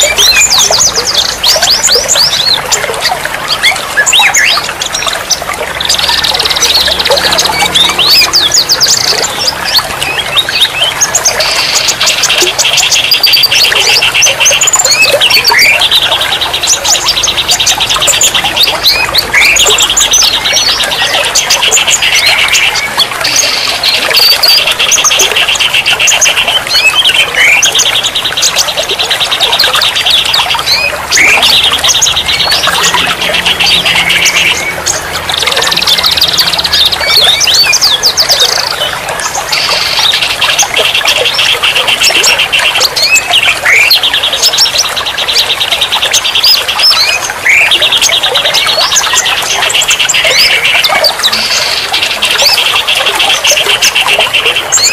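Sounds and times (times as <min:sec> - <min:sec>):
fast rattling bird trill: 0:00.0 - 0:54.9
songbirds singing: 0:00.0 - 0:54.9.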